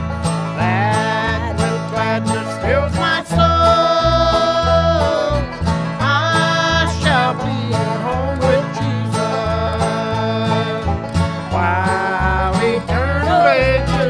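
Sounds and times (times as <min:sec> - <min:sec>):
banjo: 0:00.0 - 0:14.0
electric bass: 0:00.0 - 0:14.0
guitar: 0:00.0 - 0:14.0
voices singing: 0:00.6 - 0:14.0.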